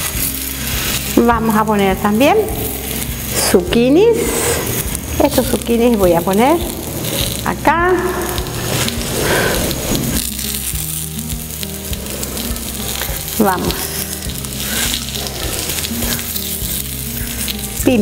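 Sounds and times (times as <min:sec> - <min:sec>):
vegetables sizzling on griddle: 0:00.0 - 0:18.0.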